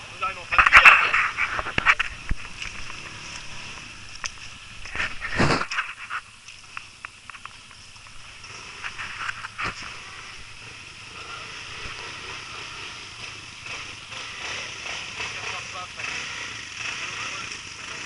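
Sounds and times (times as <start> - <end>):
quad engine running: 0.0 - 18.0.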